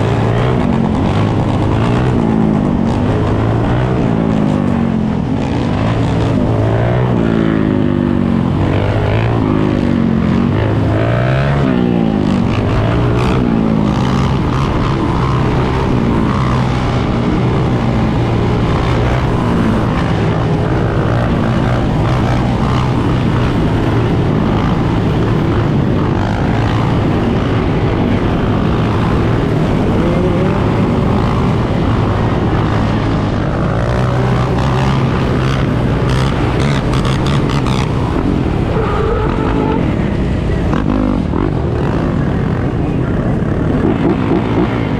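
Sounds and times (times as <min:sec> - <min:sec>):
engines revving: 0:00.0 - 0:44.9
steady engine drone: 0:00.0 - 0:44.9.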